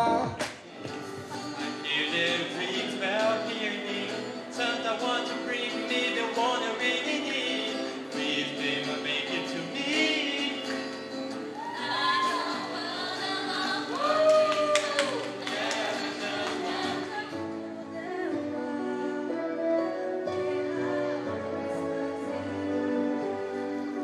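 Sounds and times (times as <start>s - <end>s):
acoustic guitar: 0.0s - 24.0s
group singing into microphones: 0.0s - 24.0s.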